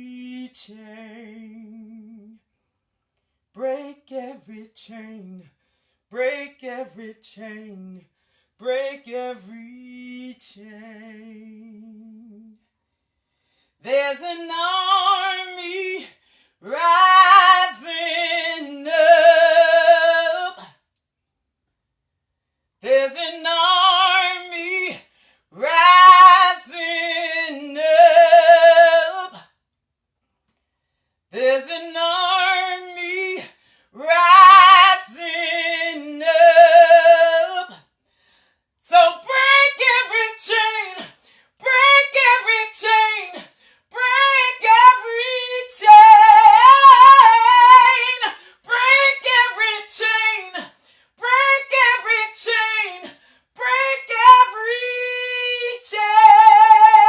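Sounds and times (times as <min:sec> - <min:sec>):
woman singing unaccompanied: 0:00.0 - 0:02.4, 0:03.6 - 0:05.5, 0:06.1 - 0:08.0, 0:08.6 - 0:12.6, 0:13.8 - 0:20.7, 0:22.8 - 0:29.5, 0:31.3 - 0:37.8, 0:38.8 - 0:57.0.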